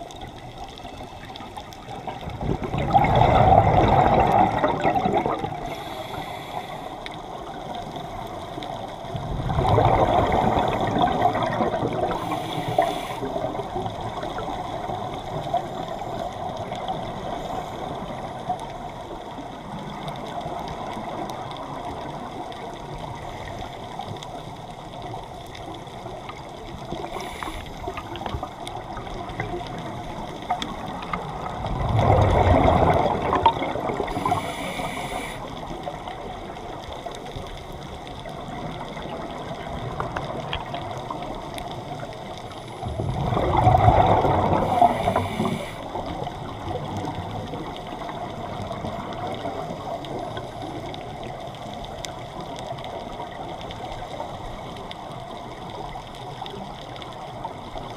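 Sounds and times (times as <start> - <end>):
faint crackling: 0.0 - 57.9
scuba exhaust bubbles: 0.0 - 57.9
underwater low wash: 0.0 - 57.9.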